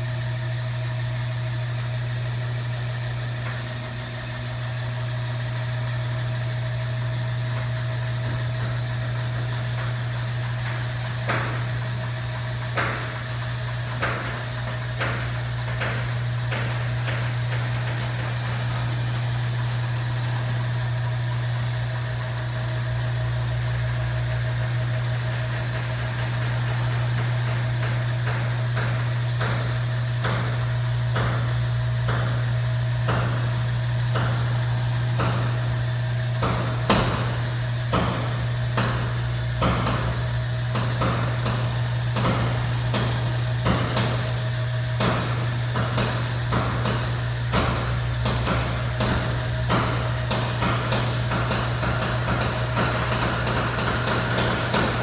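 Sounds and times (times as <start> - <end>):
door lift motor humming: 0.0 - 55.0.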